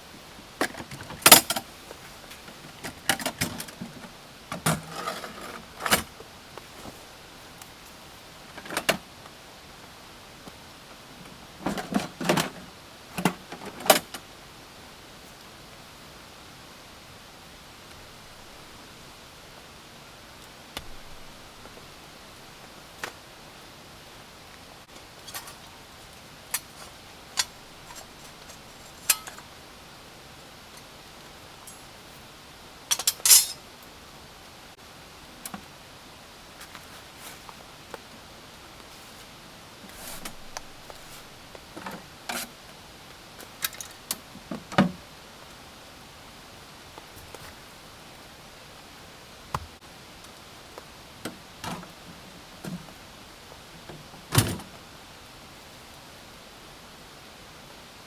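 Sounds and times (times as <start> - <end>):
rain hissing: 0.0 - 58.0
rustle: 0.0 - 58.0.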